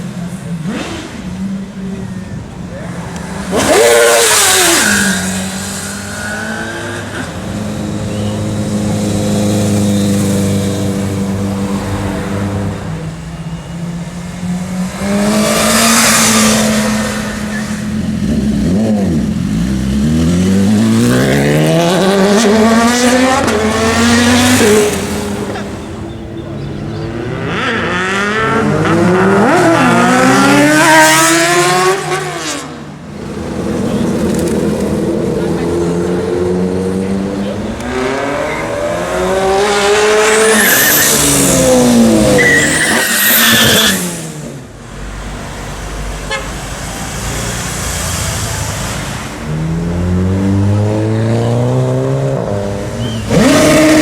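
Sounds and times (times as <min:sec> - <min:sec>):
motorcycle engines accelerating: 0:00.0 - 0:54.0.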